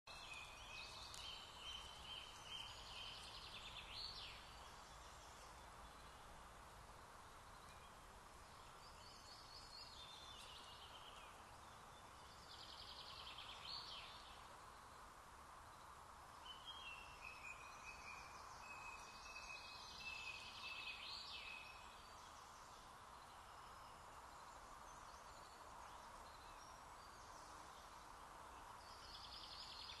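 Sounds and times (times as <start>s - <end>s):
faint birdsong: 0.1s - 30.0s.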